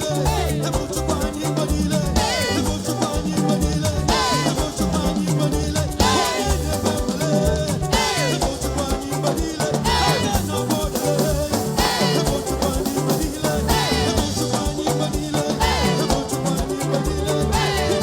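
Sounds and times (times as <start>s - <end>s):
gospel band playing: 0.0s - 18.0s.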